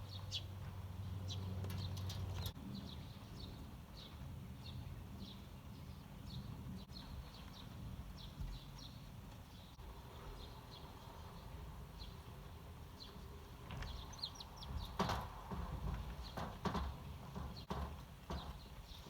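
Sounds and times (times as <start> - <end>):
sparrows chirping: 0.0 - 19.0.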